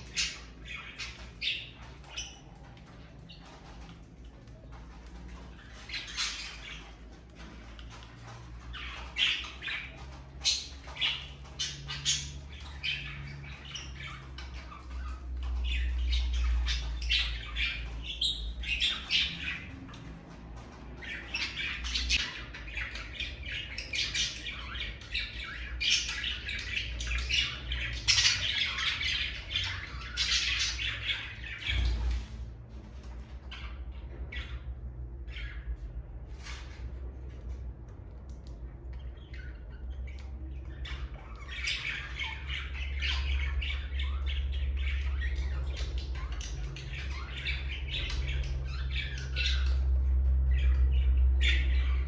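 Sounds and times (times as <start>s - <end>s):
budgerigars chattering: 0.0s - 4.0s, 4.6s - 32.2s, 39.0s - 52.0s.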